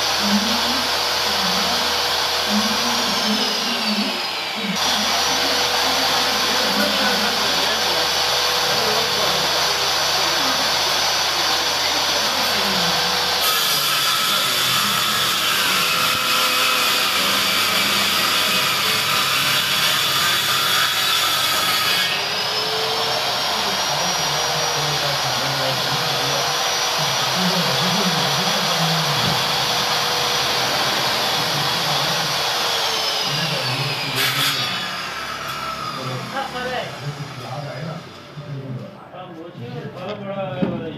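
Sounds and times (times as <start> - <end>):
table saw cutting board: 0.0 - 38.4.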